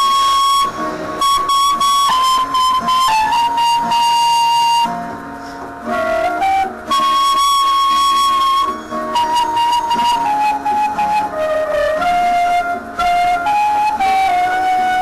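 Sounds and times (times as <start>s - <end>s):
flute melody: 0.0s - 15.0s
recorded backing track: 0.0s - 15.0s.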